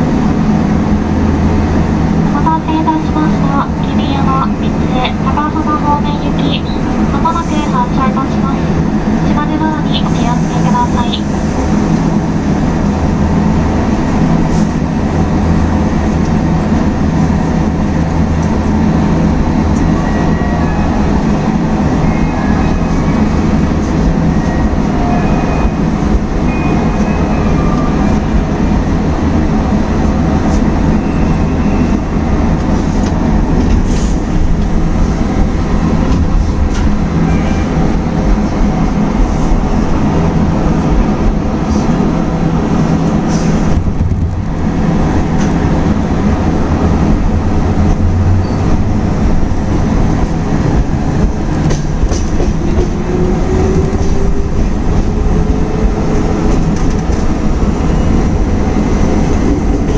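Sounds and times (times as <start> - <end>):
train cab hum and rumble: 0.0 - 59.9
train pulling out alongside: 0.0 - 59.9.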